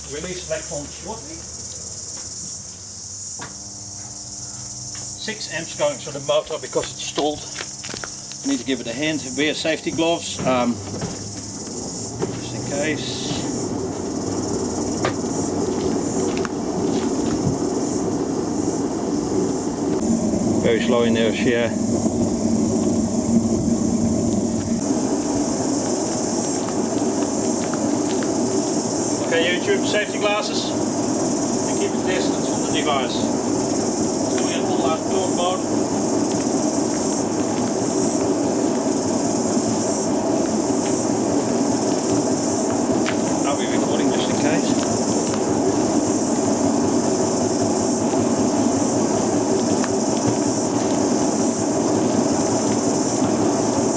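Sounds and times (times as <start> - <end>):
constant hiss: 0.0 - 53.9
washing machine mechanical hum: 0.0 - 53.9.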